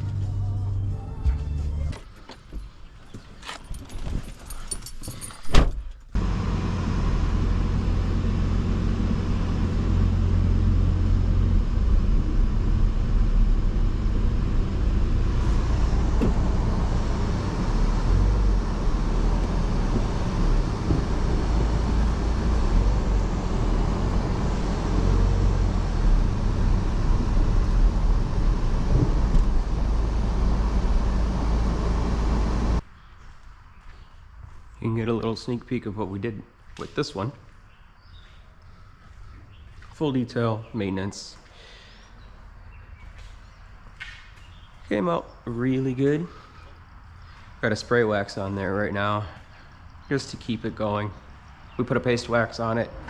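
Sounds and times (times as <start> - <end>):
car engine and road noise: 0.0 - 34.7, 42.5 - 53.0.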